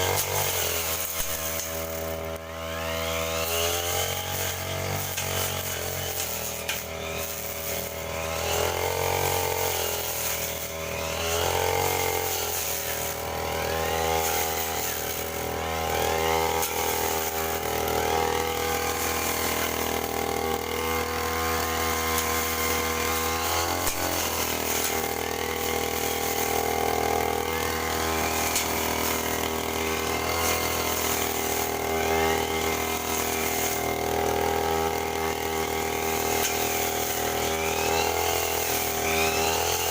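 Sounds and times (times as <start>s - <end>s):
grass cutter engine running: 0.0s - 39.9s.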